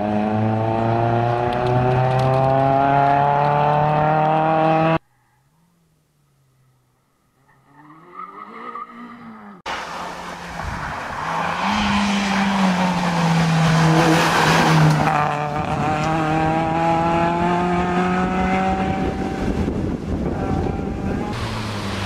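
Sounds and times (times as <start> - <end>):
rally car engine passing by: 0.0 - 5.0, 7.5 - 22.0.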